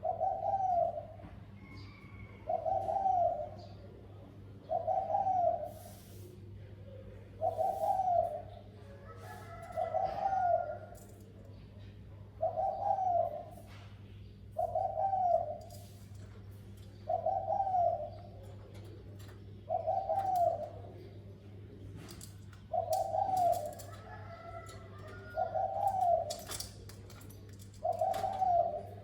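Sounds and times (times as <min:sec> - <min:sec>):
dove cooing: 0:00.0 - 0:13.8, 0:14.5 - 0:29.0.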